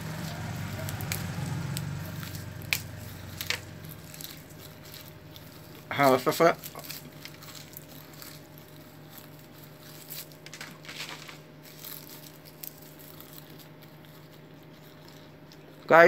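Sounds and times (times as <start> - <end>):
chewing leaves and twigs: 0.0 - 16.0.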